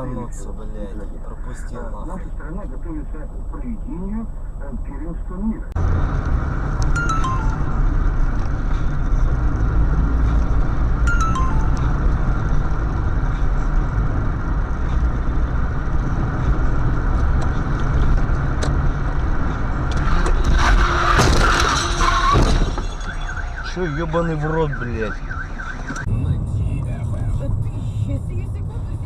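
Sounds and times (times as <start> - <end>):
car driving road noise: 0.0 - 29.0.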